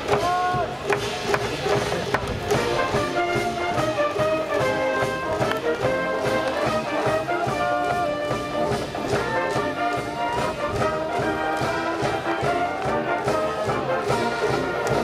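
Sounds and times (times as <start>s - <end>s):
brass band playing: 0.1s - 15.0s.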